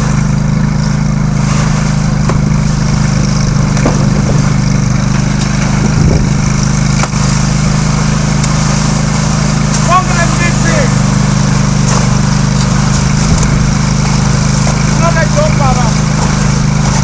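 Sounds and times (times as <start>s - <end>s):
concrete mixer motor droning: 0.0s - 17.0s.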